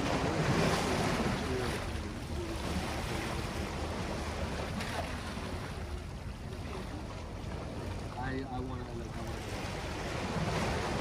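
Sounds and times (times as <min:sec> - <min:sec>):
small waves lapping against rocks: 0:00.0 - 0:11.0.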